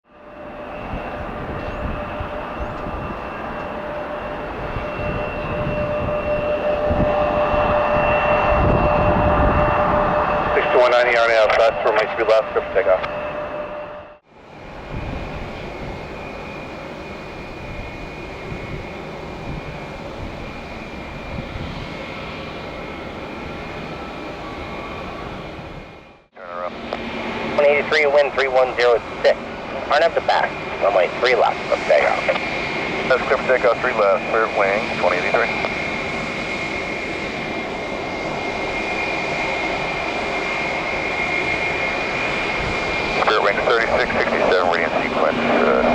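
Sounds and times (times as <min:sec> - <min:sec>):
jet engines running: 0:00.1 - 0:45.9.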